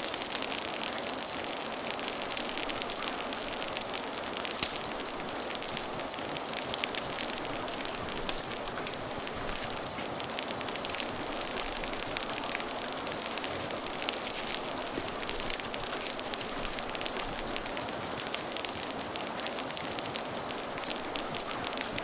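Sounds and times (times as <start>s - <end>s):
fire crackling: 0.0s - 22.0s
steady rain: 0.0s - 22.0s.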